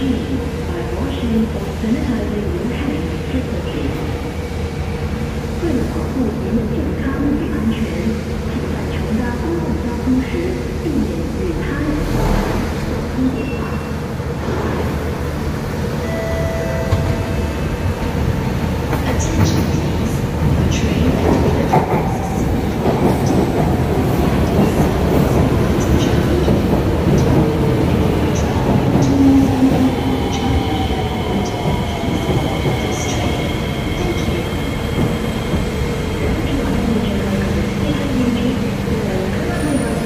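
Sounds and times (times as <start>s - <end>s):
train wheels rumbling on rail: 0.0s - 16.0s, 16.8s - 40.0s.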